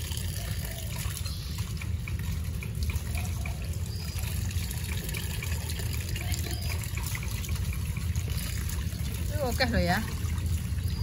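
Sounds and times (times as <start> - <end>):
water running into a bucket: 0.0 - 11.0.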